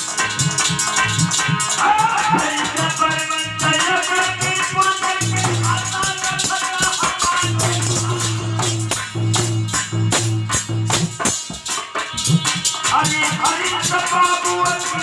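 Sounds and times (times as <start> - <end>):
percussion strikes: 0.0 - 15.0.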